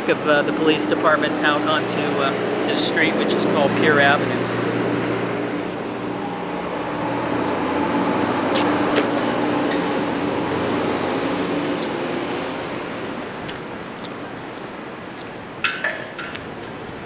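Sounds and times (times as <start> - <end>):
vehicle engine hum: 0.0 - 15.6
street traffic noise: 0.0 - 17.0.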